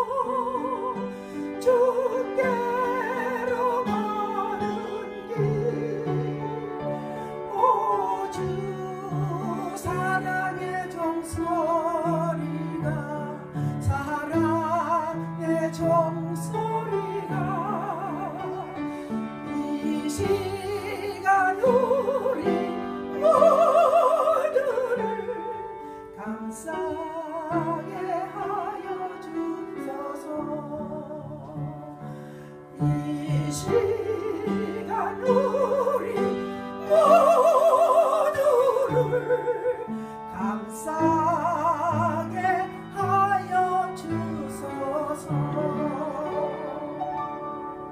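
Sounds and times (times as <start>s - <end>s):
woman singing slow song: 0.0s - 32.0s, 32.8s - 47.0s
keyboard accompaniment: 0.0s - 47.9s.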